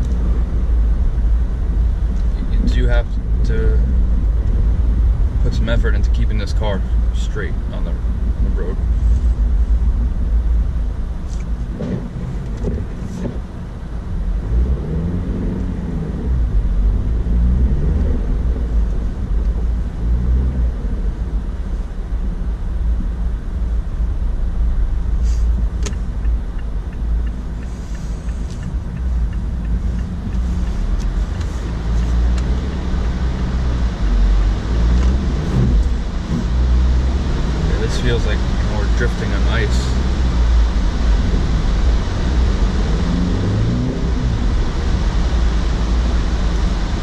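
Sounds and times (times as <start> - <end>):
car engine revving: 0.0 - 47.0
tyre and drivetrain rumble: 0.0 - 47.0.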